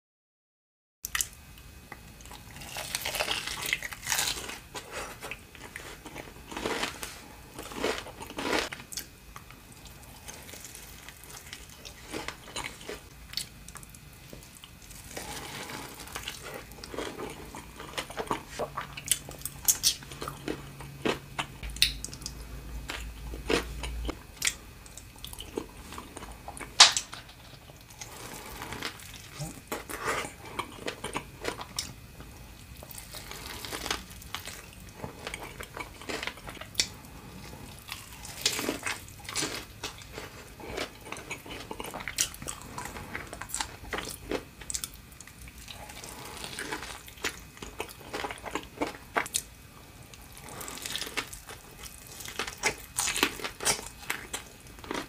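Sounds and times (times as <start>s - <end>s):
crunching bites and chewing: 2.2s - 55.0s.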